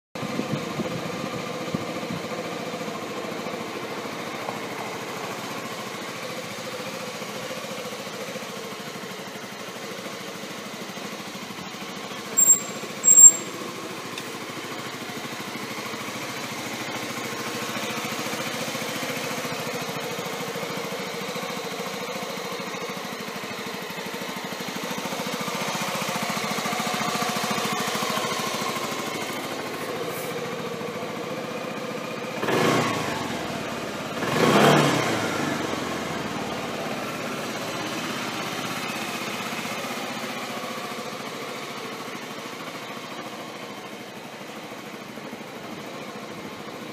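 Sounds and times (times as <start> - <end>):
scooter engine idling: 0.2 - 46.9.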